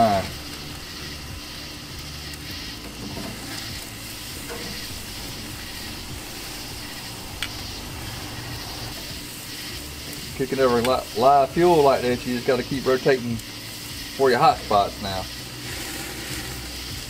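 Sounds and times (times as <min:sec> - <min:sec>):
fat crackling in the fire: 0:00.0 - 0:17.0
steak sizzling on a grill: 0:00.0 - 0:17.0.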